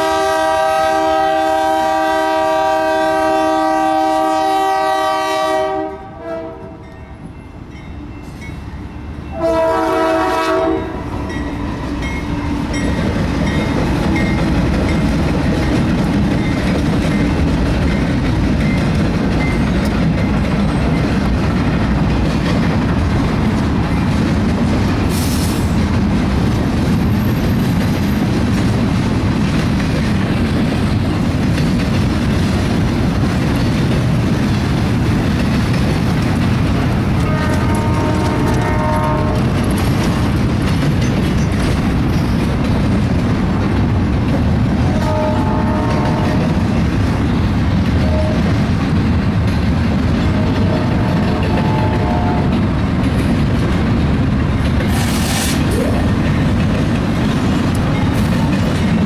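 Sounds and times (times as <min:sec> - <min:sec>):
freight train rumbling: 0:00.0 - 0:59.0
wheels clacking over rail joints: 0:10.6 - 0:59.0.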